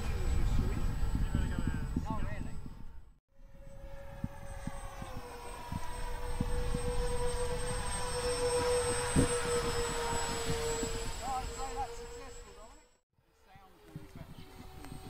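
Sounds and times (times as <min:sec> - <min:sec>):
model jet fan whine: 0:00.0 - 0:15.0.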